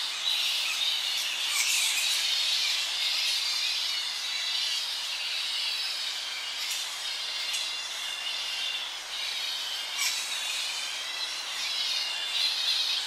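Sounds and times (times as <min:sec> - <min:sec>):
birds singing: 0:00.0 - 0:13.0
flying foxes squealing: 0:00.3 - 0:13.0.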